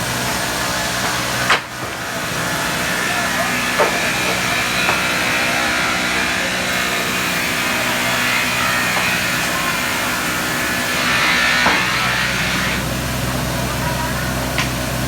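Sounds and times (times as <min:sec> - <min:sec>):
sawmill saw droning: 0:00.0 - 0:14.6.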